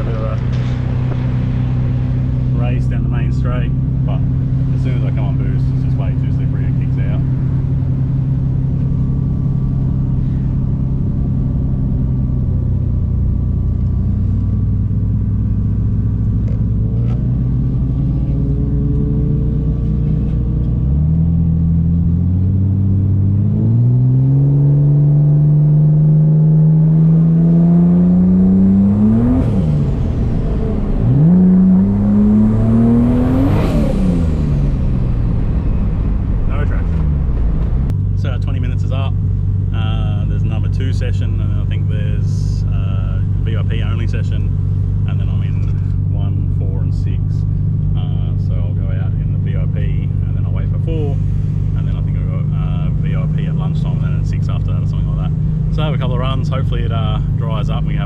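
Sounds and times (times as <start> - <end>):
turbocharged car engine: 0.0 - 58.0.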